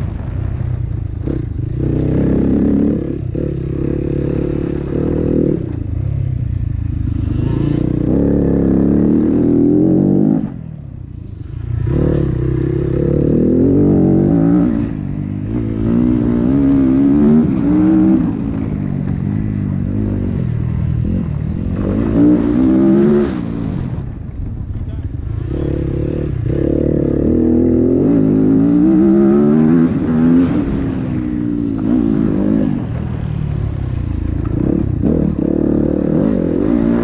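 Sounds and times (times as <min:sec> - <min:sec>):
dirt bike engine revving: 0:01.2 - 0:06.2, 0:06.8 - 0:10.6, 0:11.4 - 0:24.0, 0:25.3 - 0:37.0.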